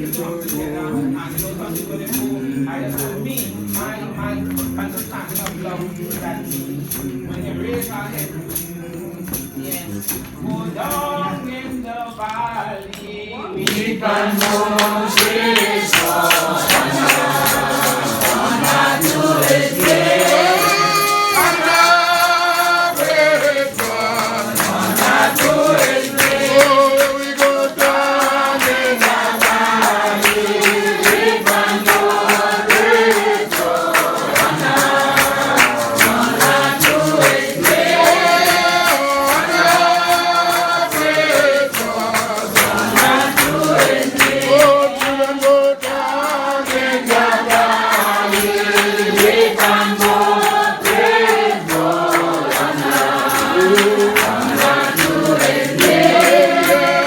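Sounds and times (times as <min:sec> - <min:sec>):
steady percussion beat: 0:00.0 - 0:11.9, 0:13.6 - 0:57.0
congregation singing a hymn: 0:00.0 - 0:57.0.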